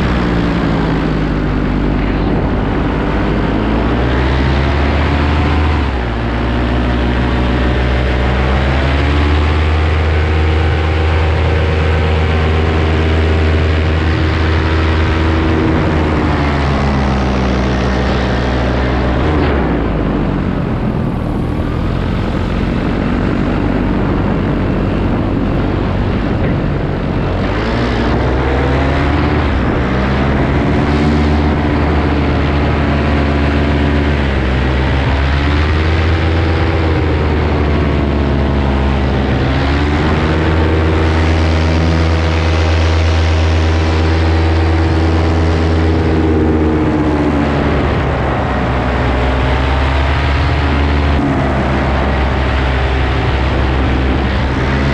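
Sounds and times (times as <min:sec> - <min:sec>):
paramotor engine and propeller: 0:00.0 - 0:54.9.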